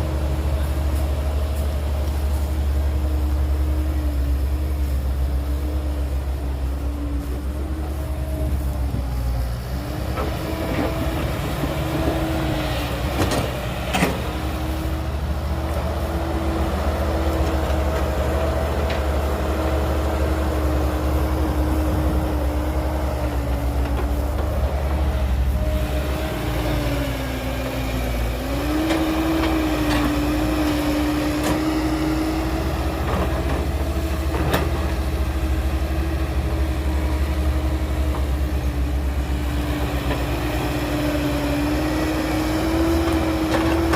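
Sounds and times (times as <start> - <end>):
heavy diesel engine droning: 0.0 - 43.9.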